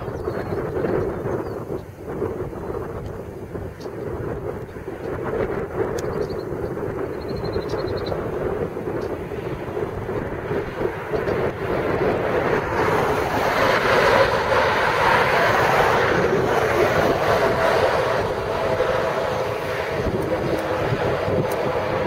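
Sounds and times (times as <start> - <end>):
highway traffic noise: 0.0 - 22.0
passing vehicle tyre noise: 0.0 - 22.0
wind buffeting microphone: 0.0 - 22.0.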